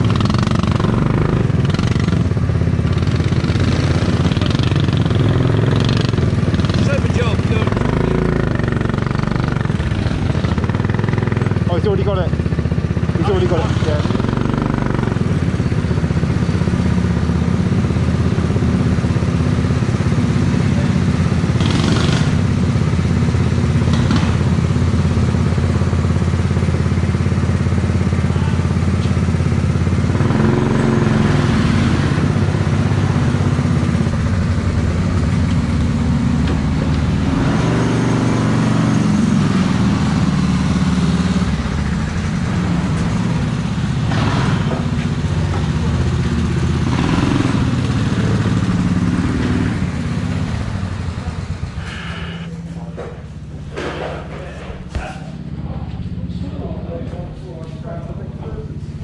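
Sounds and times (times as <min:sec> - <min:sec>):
go-kart engine running: 0:00.0 - 0:57.1.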